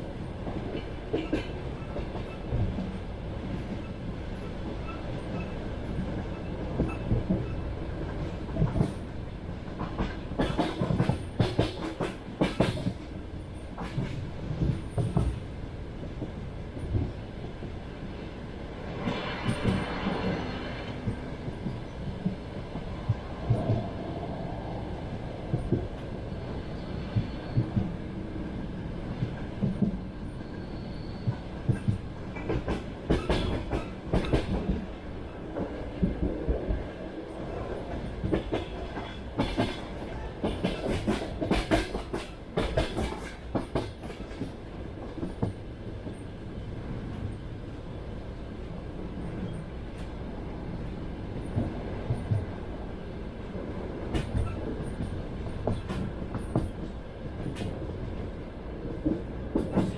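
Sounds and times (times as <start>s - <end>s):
train carriage rumbling: 0.0s - 59.9s.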